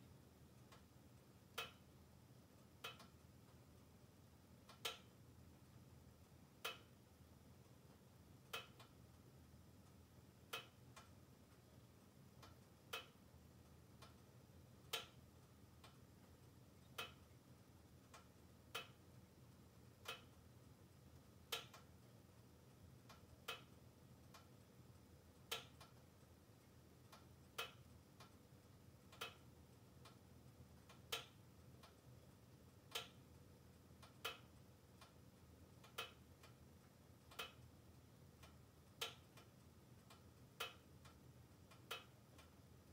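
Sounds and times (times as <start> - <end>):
wood stove crackling: 0.0 - 42.9.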